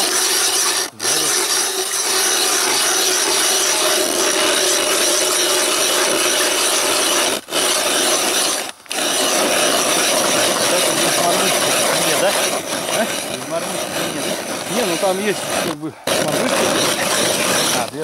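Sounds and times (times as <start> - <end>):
ice auger blades scraping: 0.0 - 18.0.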